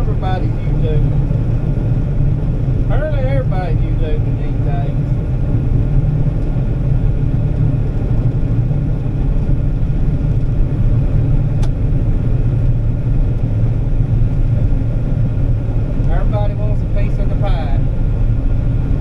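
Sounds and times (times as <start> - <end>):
diesel engine rumble: 0.0 - 19.0.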